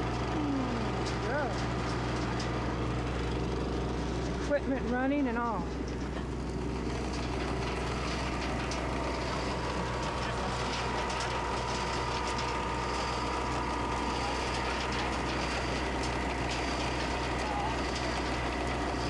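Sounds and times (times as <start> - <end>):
machinery drone: 0.0 - 19.0.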